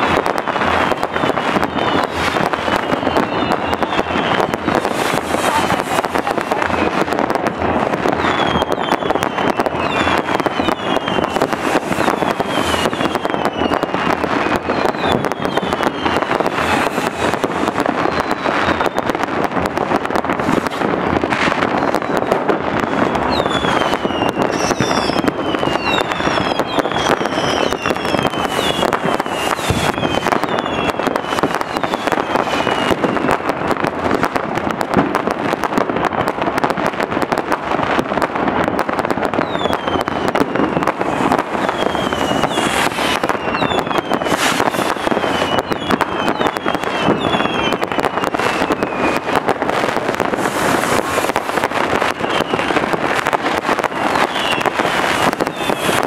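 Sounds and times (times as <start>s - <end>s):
falling firework whistles: 0.0s - 34.4s, 35.3s - 56.0s
fireworks crackling: 0.0s - 56.0s.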